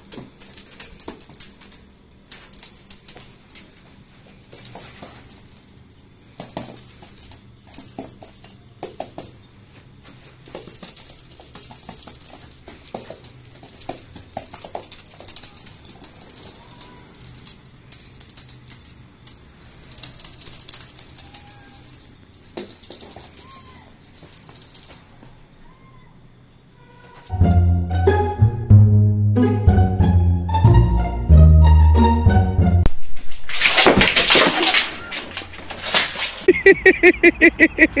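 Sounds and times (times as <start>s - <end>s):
small bells jingling: 0.0s - 27.4s, 33.5s - 38.0s.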